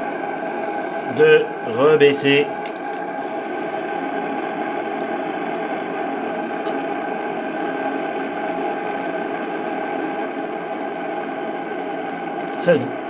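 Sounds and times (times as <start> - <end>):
steam plant humming and hissing: 0.0 - 13.0.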